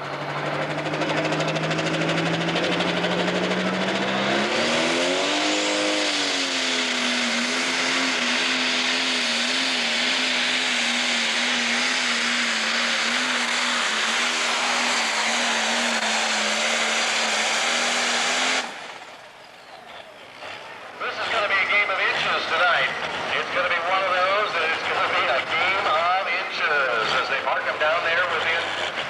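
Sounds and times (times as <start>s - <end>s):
diesel engine running flat out: 0.0s - 29.0s.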